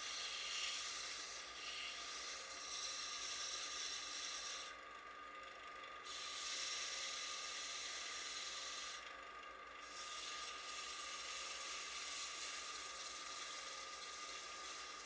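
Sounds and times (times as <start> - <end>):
abrasive rasping on spinning wood: 0.0 - 4.8, 6.0 - 9.1, 9.8 - 15.0
wood lathe humming: 0.0 - 15.0.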